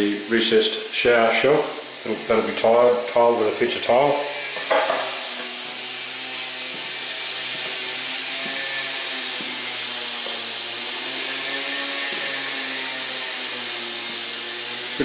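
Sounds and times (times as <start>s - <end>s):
concrete saw grinding: 0.0s - 15.0s.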